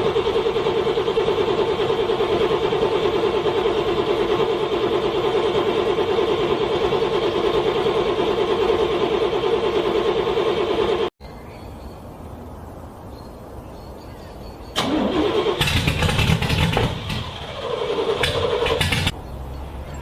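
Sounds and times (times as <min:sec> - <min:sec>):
car engine cranking: 0:00.0 - 0:11.1, 0:14.8 - 0:20.0.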